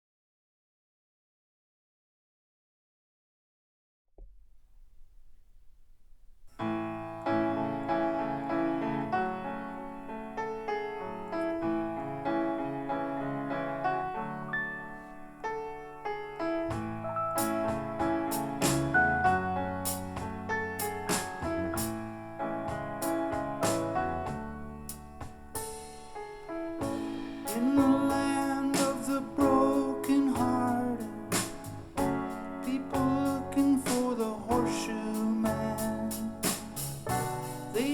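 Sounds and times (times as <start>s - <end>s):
piano instrumental music: 6.4s - 37.9s.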